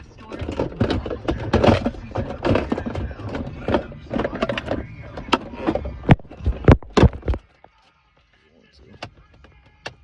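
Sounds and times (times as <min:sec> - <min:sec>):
rustling and clatter of parts: 0:00.0 - 0:10.0.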